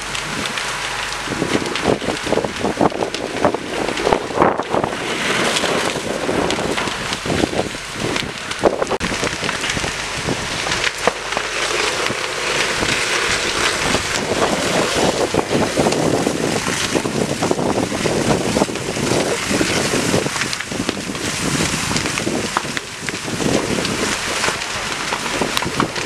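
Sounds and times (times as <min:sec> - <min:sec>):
fire crackling: 0:00.0 - 0:26.0
wind buffeting microphone: 0:00.0 - 0:26.0.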